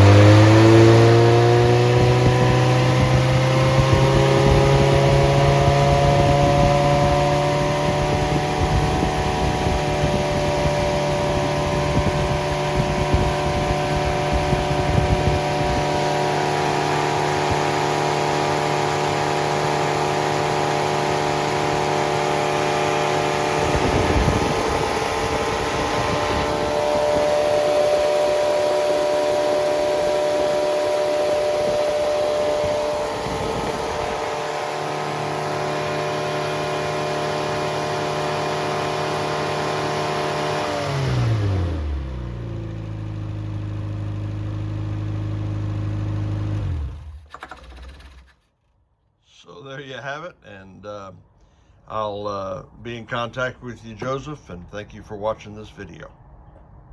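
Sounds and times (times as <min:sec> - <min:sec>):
unmuffled car engine running: 0:00.0 - 0:48.4.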